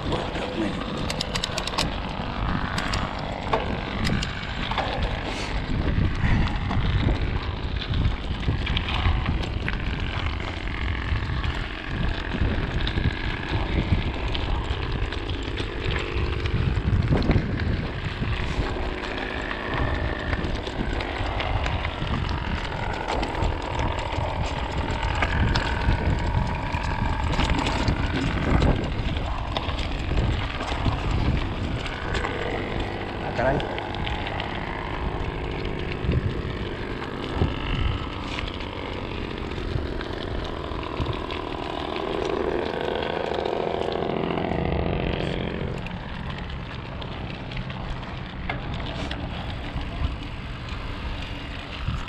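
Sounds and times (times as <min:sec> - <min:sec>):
bike frame rattling: 0:00.0 - 0:52.0
bike tyres rumbling on dirt: 0:00.0 - 0:52.0.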